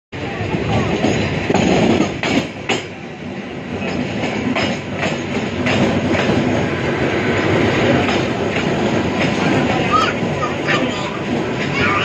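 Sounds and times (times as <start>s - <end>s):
wheels clicking on rail joints: 0.2s - 3.0s, 3.7s - 12.0s
train wheels rolling: 0.2s - 12.0s.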